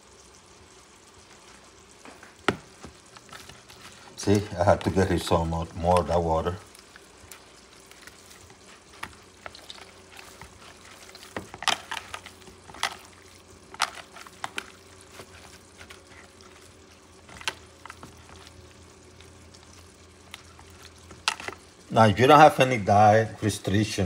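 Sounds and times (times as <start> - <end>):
low steady hum: 0.0 - 24.0
hands squelching wet bread: 2.4 - 21.6.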